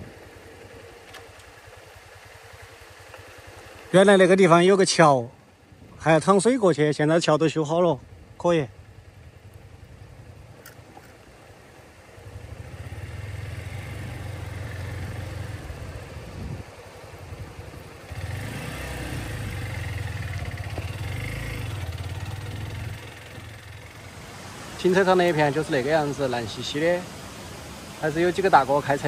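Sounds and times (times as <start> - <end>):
vehicle engine driving on dirt road: 0.0 - 29.0.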